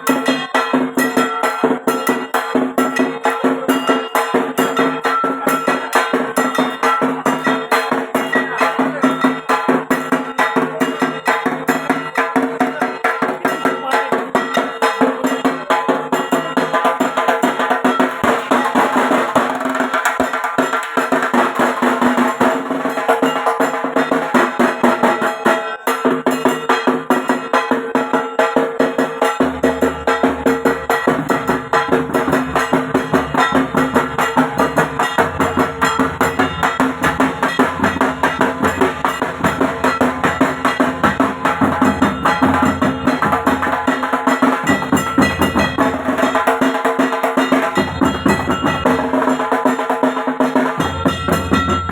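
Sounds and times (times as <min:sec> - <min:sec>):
drums beaten with sticks: 0:00.0 - 0:51.9.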